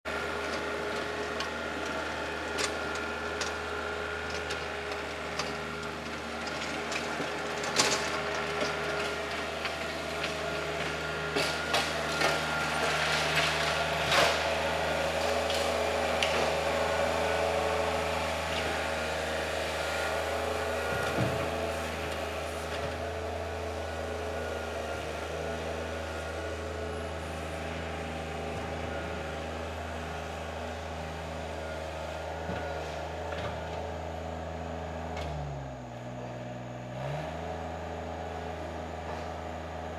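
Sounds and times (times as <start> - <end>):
tractor engine running: 0.0 - 39.9
rotary tiller churning soil: 0.1 - 39.9.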